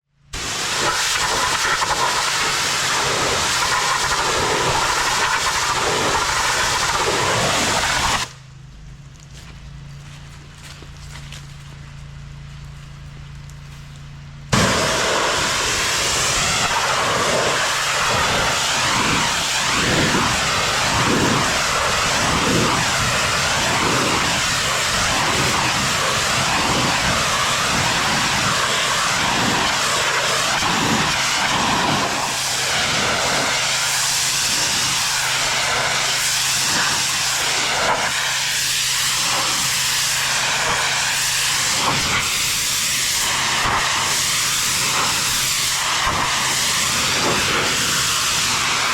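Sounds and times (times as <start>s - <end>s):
engine or pump hum: 0.0s - 48.9s
pressure washer water jet hiss: 0.3s - 8.5s, 14.5s - 48.9s.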